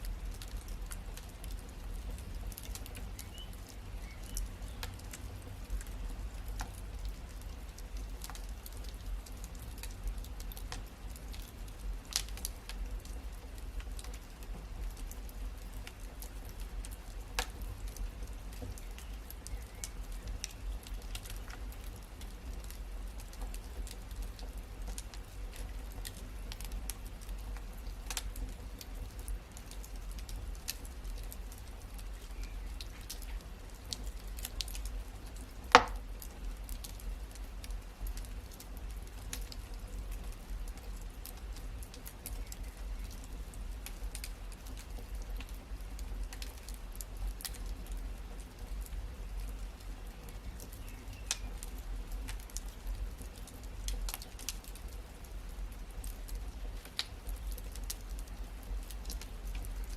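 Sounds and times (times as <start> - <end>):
low steady rumble: 0.0 - 59.9
wood fire crackling: 0.0 - 59.9.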